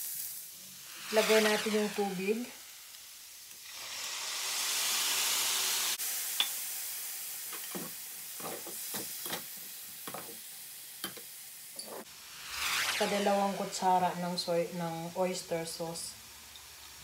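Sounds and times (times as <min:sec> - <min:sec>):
water hissing in a hot pan: 0:00.0 - 0:17.0.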